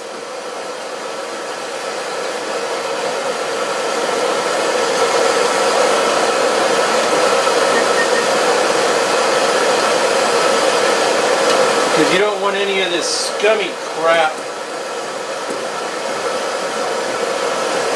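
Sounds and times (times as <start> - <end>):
blower machine whirring: 0.0 - 17.9
steady hum: 0.4 - 17.9.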